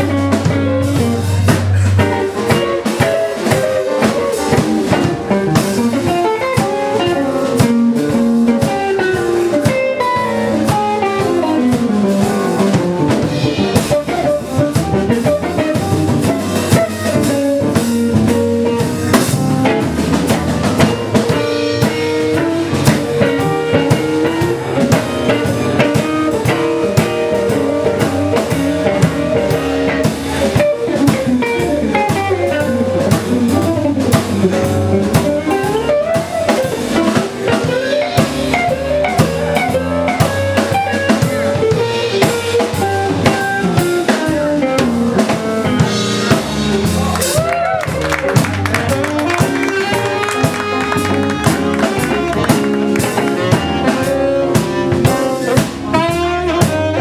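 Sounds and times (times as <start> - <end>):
bending pitched notes: 0.0 - 57.0
drum kit beat with rimshots: 0.0 - 57.0
guitar: 0.0 - 57.0.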